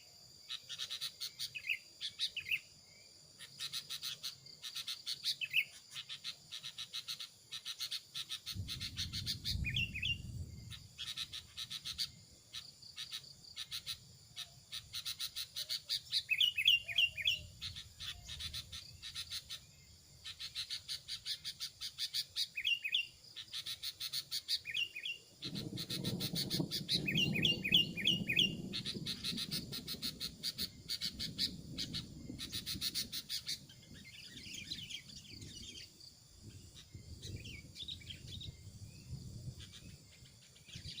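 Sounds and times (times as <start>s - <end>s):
small birds chipping and chirping: 0.0s - 41.0s.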